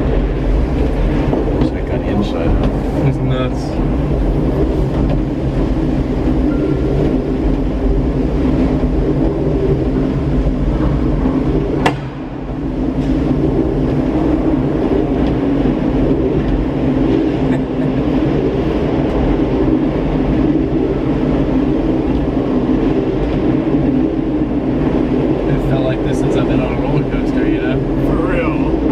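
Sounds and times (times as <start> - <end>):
tram mechanical rumble: 0.0 - 28.9.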